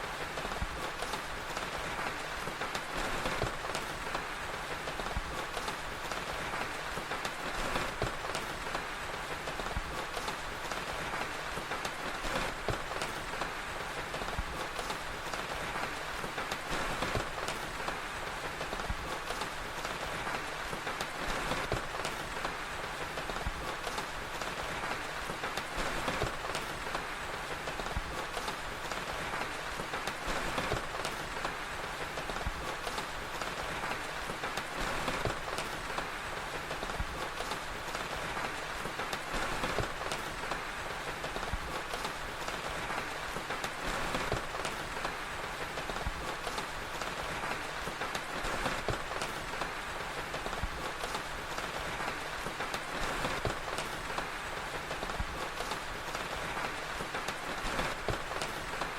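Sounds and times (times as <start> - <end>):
steady rain falling: 0.0 - 58.9
wood fire crackling: 0.0 - 58.9.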